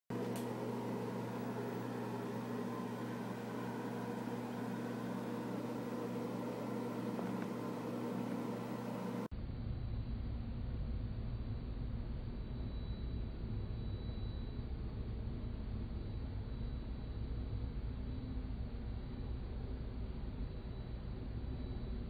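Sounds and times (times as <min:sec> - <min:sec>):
mechanical hum with hiss: 0:00.1 - 0:22.0
low dull rumble: 0:00.2 - 0:21.7.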